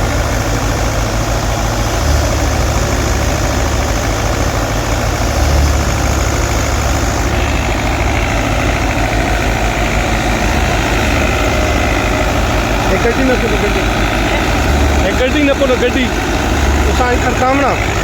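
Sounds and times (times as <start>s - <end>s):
tractor engine and thresher din: 0.0s - 18.0s.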